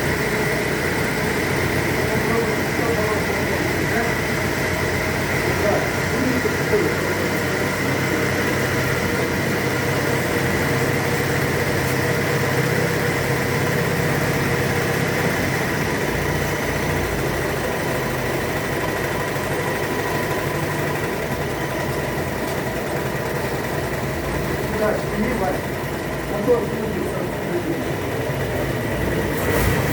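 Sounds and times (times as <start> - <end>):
engine idling rumble: 0.0 - 29.9.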